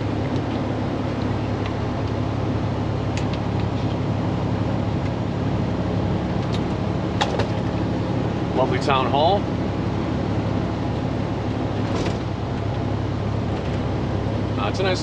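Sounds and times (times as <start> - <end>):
diesel truck engine running: 0.0 - 15.0
road noise: 0.0 - 15.0.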